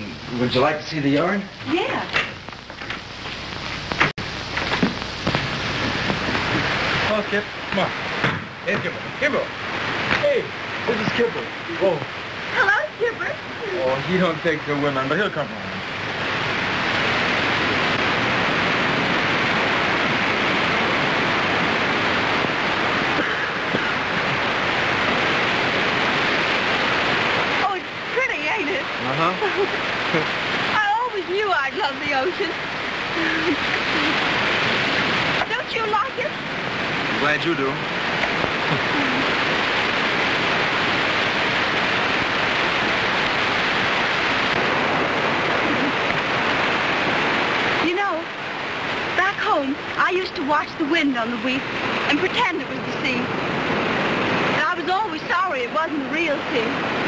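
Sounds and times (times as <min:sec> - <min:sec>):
ocean surf rushing: 0:00.0 - 0:57.0.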